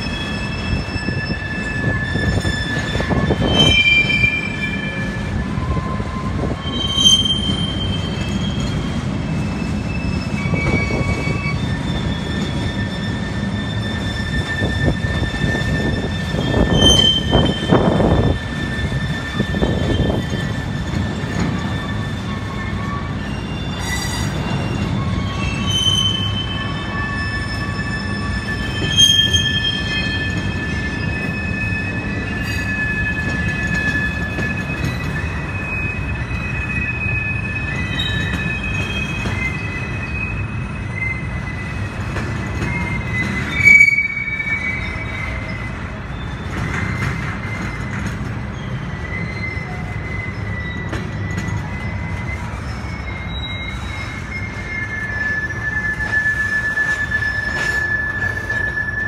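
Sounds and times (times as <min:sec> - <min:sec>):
freight train rumbling: 0:00.0 - 0:59.0
high-pitched wheel squeals: 0:00.0 - 0:59.0.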